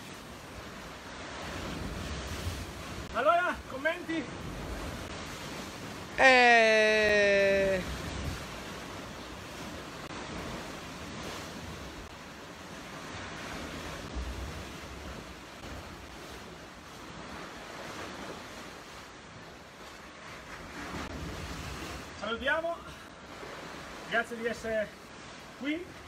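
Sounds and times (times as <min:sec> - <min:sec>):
sea surf breaking over rocks: 0:00.0 - 0:26.0.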